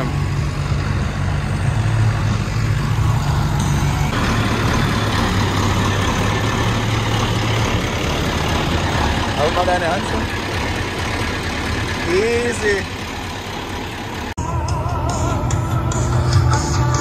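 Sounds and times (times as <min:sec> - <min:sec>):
diesel tractor engines idling: 0:00.0 - 0:17.0.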